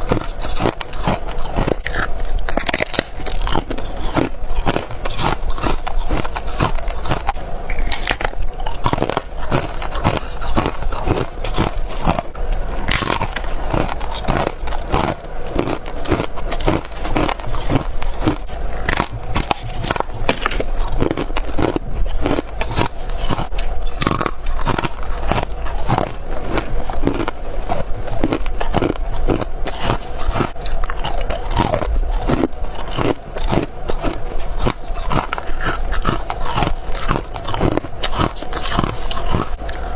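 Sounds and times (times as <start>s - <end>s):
person crunching frost: 0.0s - 39.9s.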